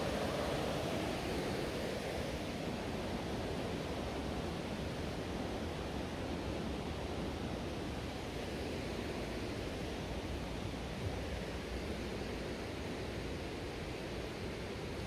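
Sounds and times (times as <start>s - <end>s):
river rushing over rapids: 0.0s - 15.0s.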